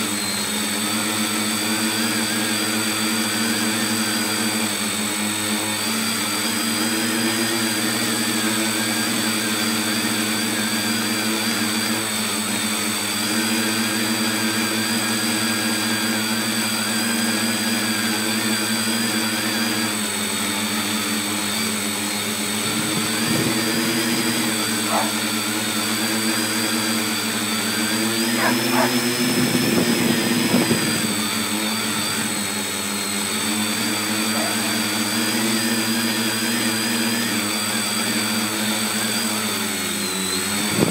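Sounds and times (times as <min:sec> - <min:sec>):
drone motors and propellers humming: 0:00.0 - 0:40.9.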